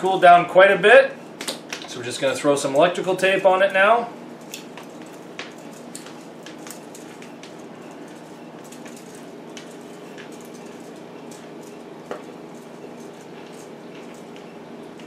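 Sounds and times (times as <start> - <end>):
steady low hum: 0.0 - 15.0
tape crackling: 2.7 - 15.0.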